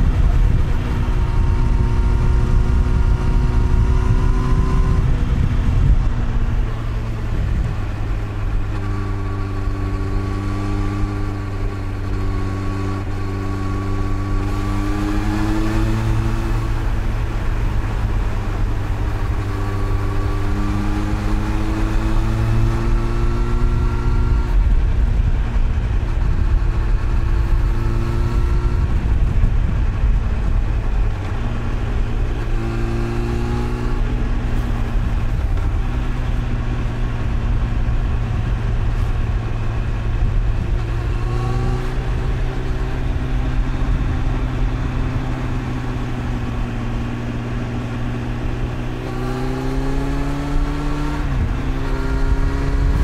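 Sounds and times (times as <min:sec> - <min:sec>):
motorcycle engine accelerating: 0:00.0 - 0:53.0
wind rush: 0:00.0 - 0:53.0.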